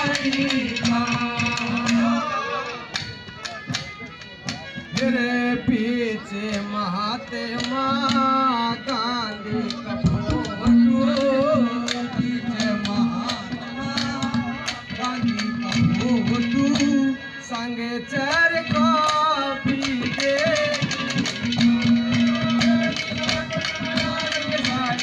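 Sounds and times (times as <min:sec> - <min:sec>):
man singing through pa system: 0:00.0 - 0:03.0, 0:04.9 - 0:25.0
hand drum beat: 0:00.0 - 0:05.8, 0:07.5 - 0:17.2, 0:18.2 - 0:25.0.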